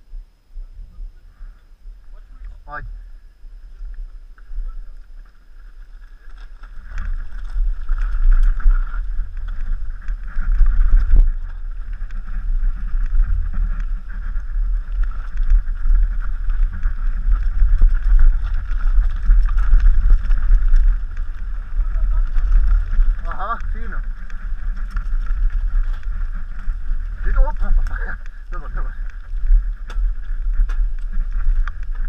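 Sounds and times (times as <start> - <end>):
wind rumble on microphone: 0.0 - 32.0
bike rattling and knocking: 5.2 - 32.0
tyre noise: 5.3 - 32.0.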